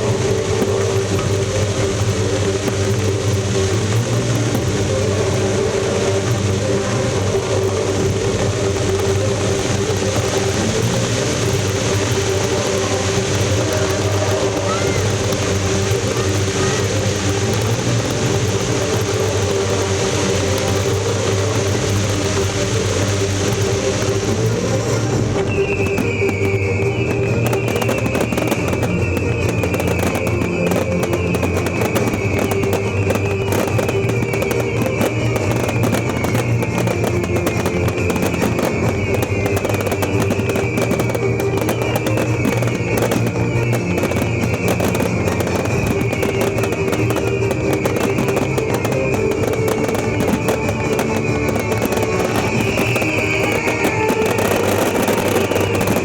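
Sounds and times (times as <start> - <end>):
fireworks crackling and popping: 0.0 - 56.0
music over loudspeakers: 0.0 - 56.0.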